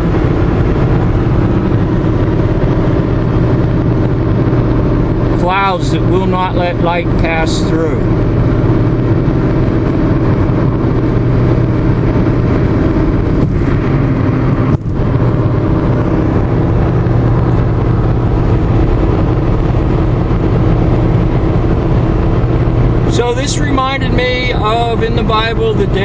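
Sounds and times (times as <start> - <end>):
car engine hum and road noise: 0.0 - 26.0.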